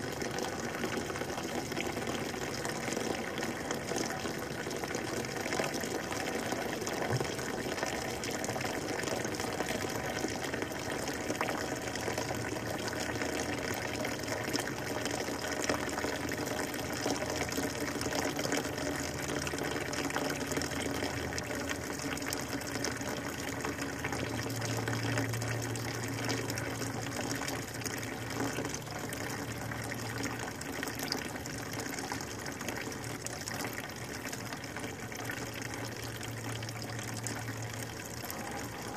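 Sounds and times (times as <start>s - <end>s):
liquid pouring from engine: 0.0s - 38.9s.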